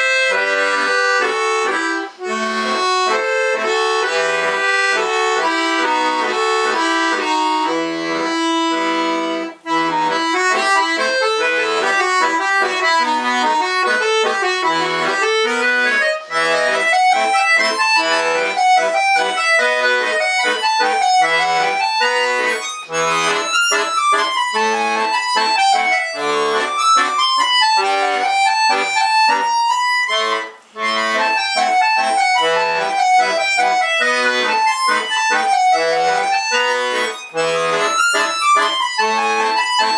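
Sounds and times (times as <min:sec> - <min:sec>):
button accordion folk piece: 0:00.0 - 0:39.9.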